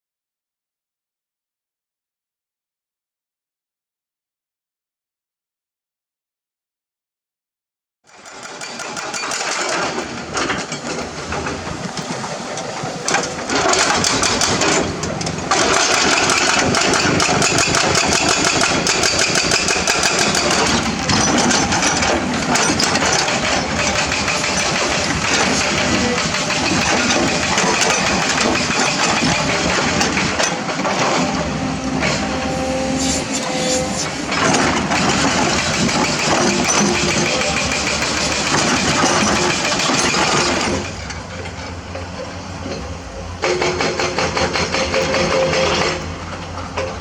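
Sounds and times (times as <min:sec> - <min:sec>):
excavator diesel engine running: 0:08.1 - 0:47.0.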